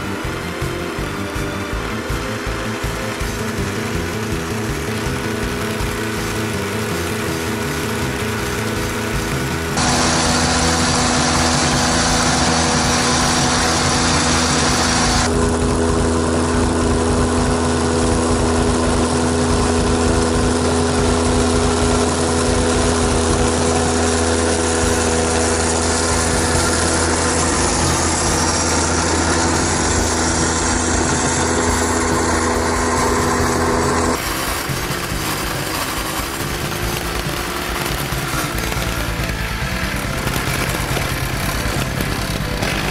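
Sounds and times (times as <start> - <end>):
mower petrol engine running: 0.0 - 42.9.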